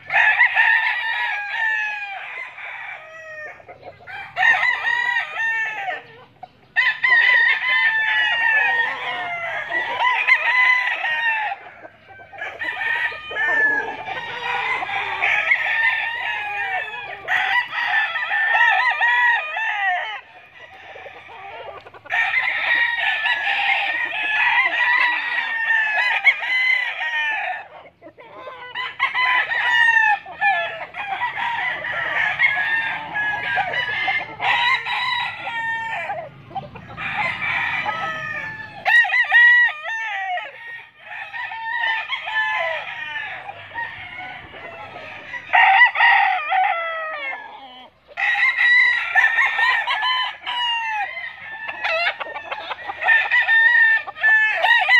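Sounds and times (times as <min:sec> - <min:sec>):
roosters crowing: 0:00.0 - 0:54.9.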